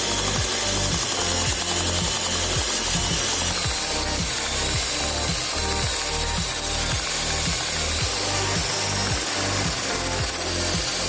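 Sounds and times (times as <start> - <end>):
angle grinder running: 0.0 - 11.0
belt sanding wood: 0.0 - 11.0.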